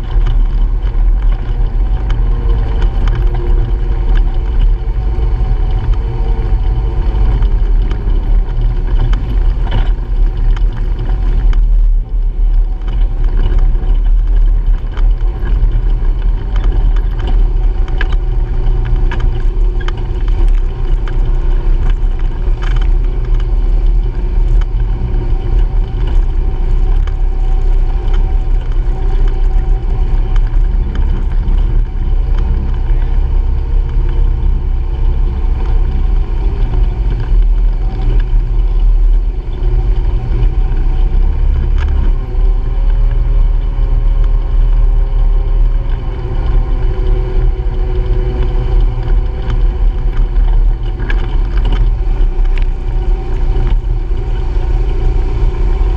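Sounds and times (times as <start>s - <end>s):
clicks and rattles: 0.0s - 55.9s
low rumble: 0.0s - 55.9s
vehicle engine droning: 0.0s - 55.9s.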